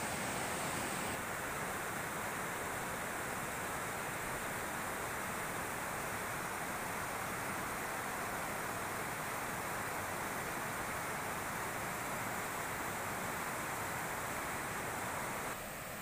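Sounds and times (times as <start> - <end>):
river water rushing: 0.0 - 15.8.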